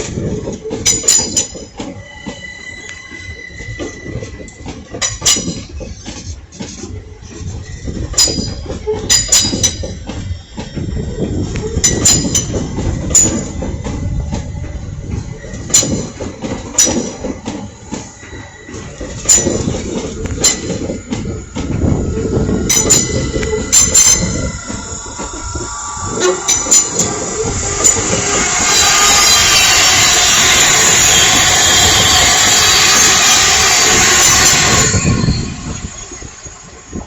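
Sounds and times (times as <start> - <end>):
train rumbling on rails: 0.0 - 37.0
wheels squealing: 0.0 - 37.0.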